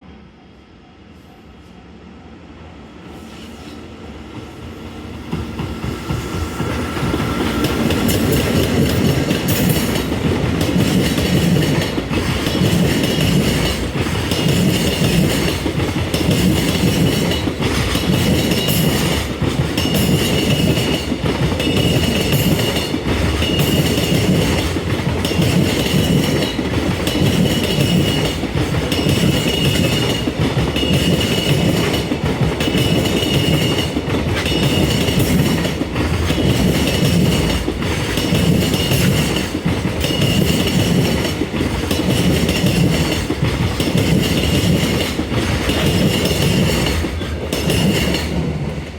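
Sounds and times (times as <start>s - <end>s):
train wheels clattering over rail joints: 5.3s - 48.9s.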